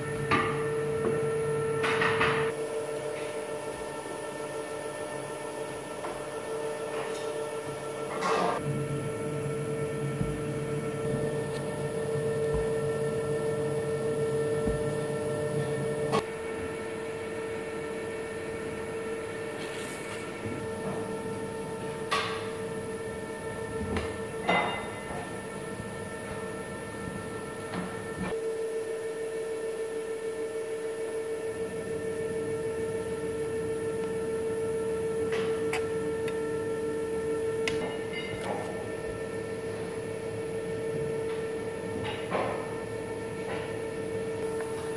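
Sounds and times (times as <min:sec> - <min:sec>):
steady mechanical hum: 0:00.0 - 0:44.9.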